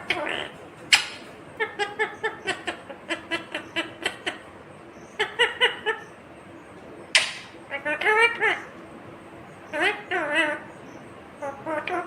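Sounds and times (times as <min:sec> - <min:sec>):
parrot calling: 0:00.0 - 0:06.3, 0:07.1 - 0:08.8, 0:09.6 - 0:12.0.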